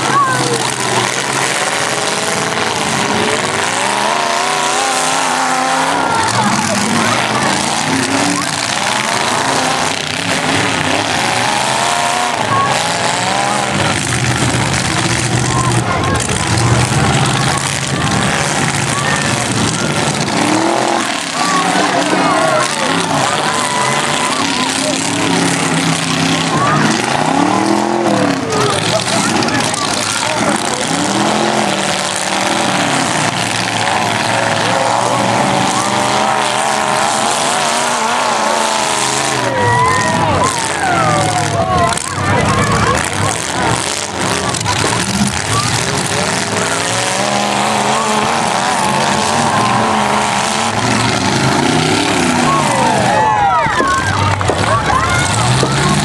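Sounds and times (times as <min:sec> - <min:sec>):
car engines revving loudly: 0:00.0 - 0:56.0
continuous din: 0:00.0 - 0:56.0.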